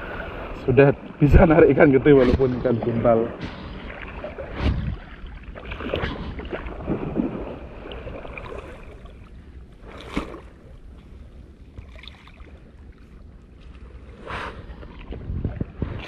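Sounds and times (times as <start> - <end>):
wind buffeting microphone: 0.0 - 9.8, 12.6 - 16.0
sea water lapping: 0.0 - 16.0.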